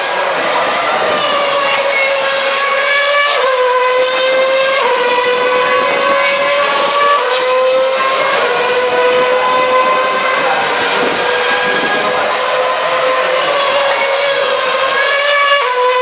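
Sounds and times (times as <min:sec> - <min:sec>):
race car engine screaming: 0:00.0 - 0:16.0.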